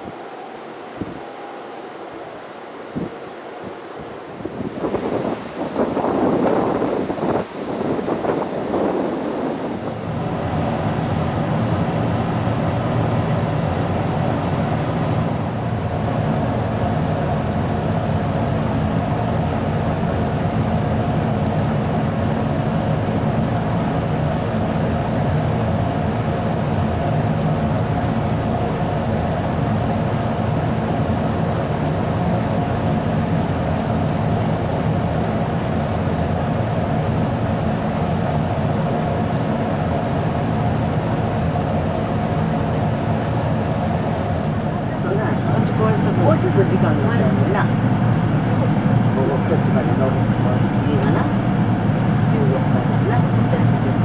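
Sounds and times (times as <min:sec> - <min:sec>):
train equipment hum and air rush: 0:00.0 - 0:54.0.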